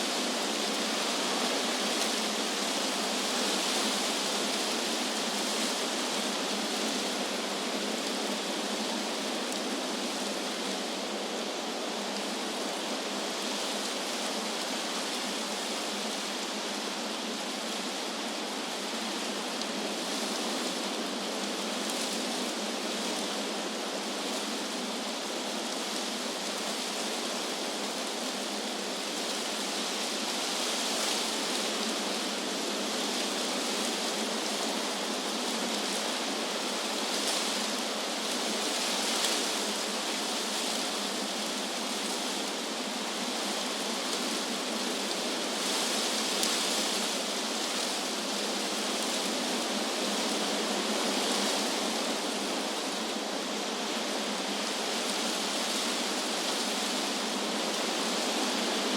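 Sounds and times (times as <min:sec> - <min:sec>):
wind blowing through trees: 0:00.0 - 0:58.9.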